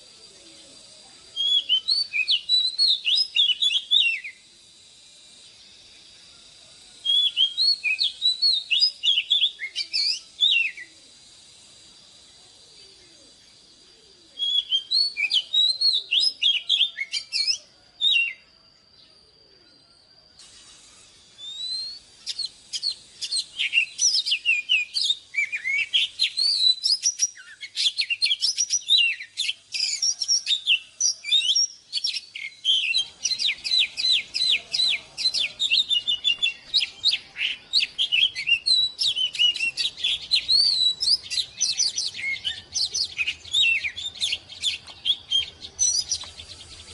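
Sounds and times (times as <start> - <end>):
bird singing whistles and chatter: 0.0 - 46.9.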